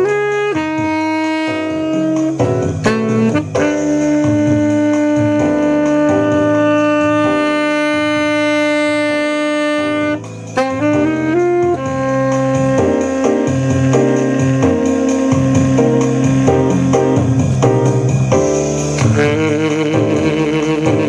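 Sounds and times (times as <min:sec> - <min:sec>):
low musical accompaniment: 0:00.0 - 0:21.0
saxophone playing: 0:00.0 - 0:21.0.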